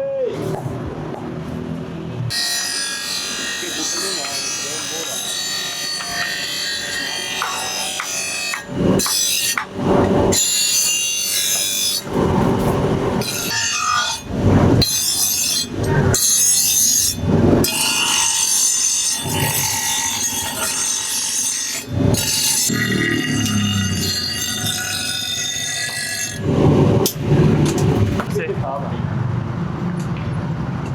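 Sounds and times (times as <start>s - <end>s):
tool rasping across steel: 2.3s - 28.3s.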